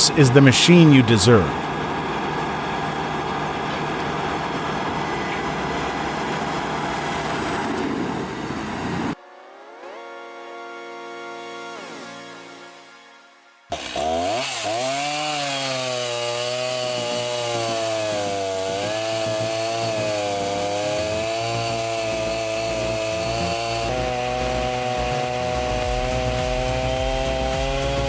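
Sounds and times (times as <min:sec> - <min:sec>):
chainsaw cutting wood: 0:00.0 - 0:09.2, 0:13.7 - 0:28.0.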